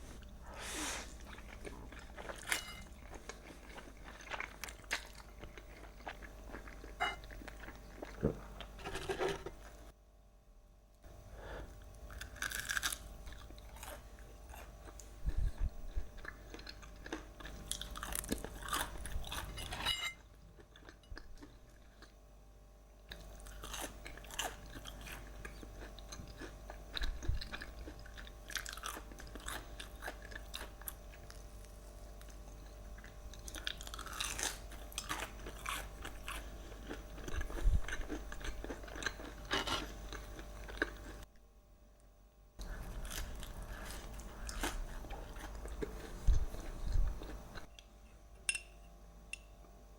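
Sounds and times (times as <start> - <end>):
crunchy chewing of food: 0.0 - 10.0, 11.0 - 22.4, 23.0 - 41.5, 42.6 - 48.0.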